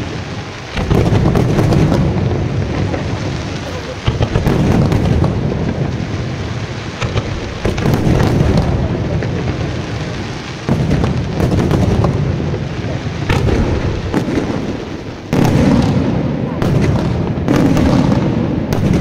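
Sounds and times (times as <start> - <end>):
fireworks booming and cracking: 0.0 - 19.0.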